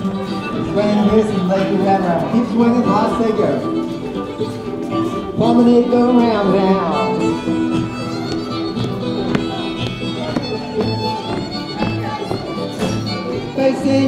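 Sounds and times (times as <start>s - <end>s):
fiddle: 0.0s - 14.0s.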